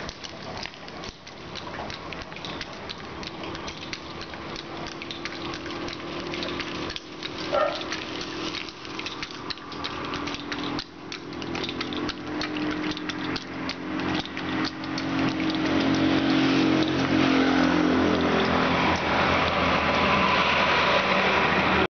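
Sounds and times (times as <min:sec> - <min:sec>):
sharp ticks and knocks: 0:00.0 - 0:21.1
vehicle engine running: 0:03.1 - 0:21.9.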